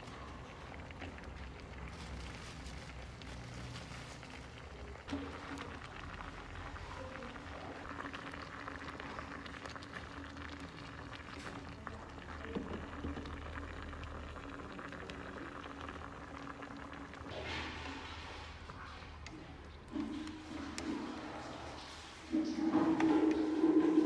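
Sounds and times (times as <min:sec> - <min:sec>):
water boiling in a saucepan: 0:00.0 - 0:24.0.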